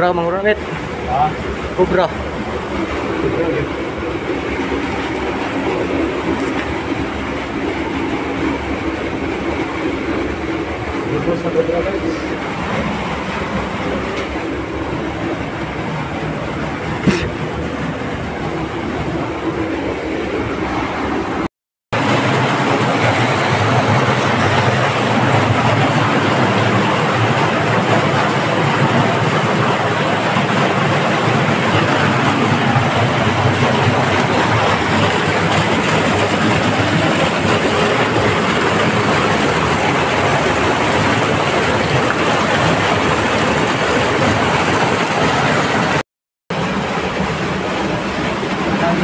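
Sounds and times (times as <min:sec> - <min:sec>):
loud steady rushing noise: 0:00.0 - 0:49.0.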